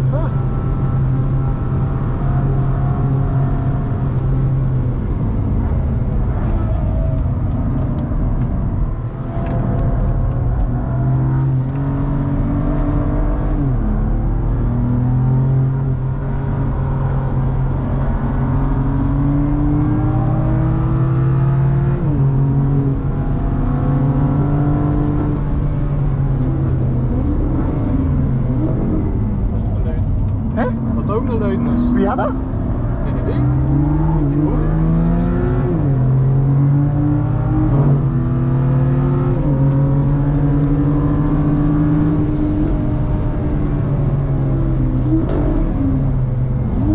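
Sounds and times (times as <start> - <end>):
car engine accelerating: 0.0 - 46.9
road and wind noise: 0.0 - 46.9.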